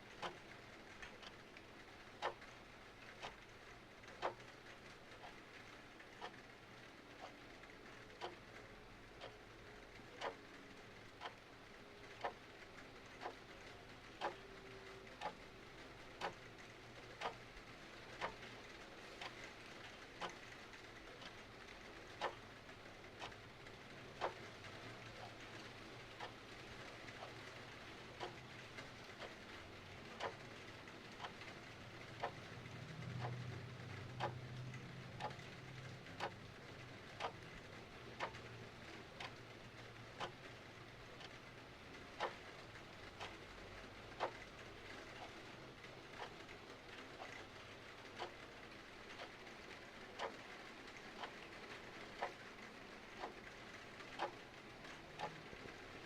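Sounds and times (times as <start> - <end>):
clock ticking: 0.0 - 56.0
soft rain hiss: 0.0 - 56.0.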